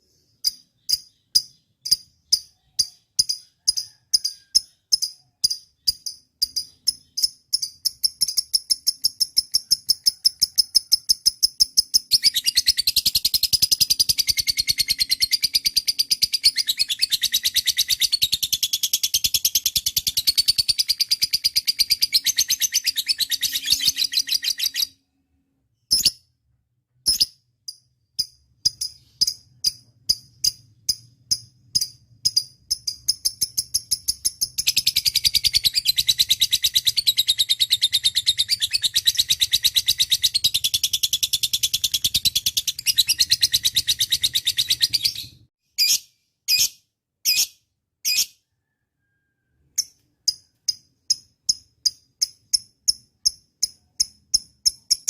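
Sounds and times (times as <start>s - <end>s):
lovebird chirping and trilling: 0.0s - 25.1s, 25.8s - 26.3s, 27.0s - 55.0s.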